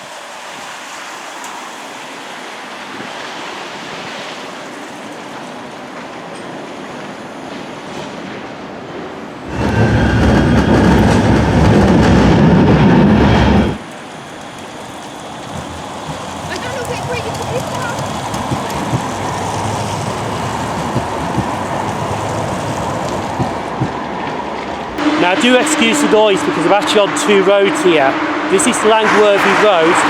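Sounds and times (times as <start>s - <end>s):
tram rumbling: 0.0s - 30.0s
wind and rain rushing: 0.0s - 30.0s.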